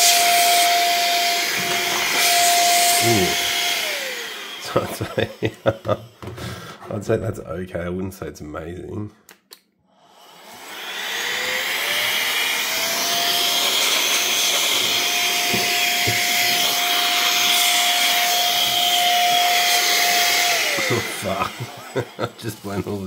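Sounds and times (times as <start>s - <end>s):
electric air duster motor whine: 0.0s - 6.5s, 10.0s - 23.0s.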